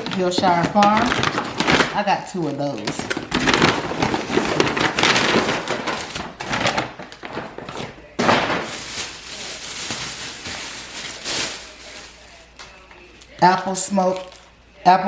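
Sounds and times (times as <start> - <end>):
bags and packaging rustling: 0.0 - 14.6.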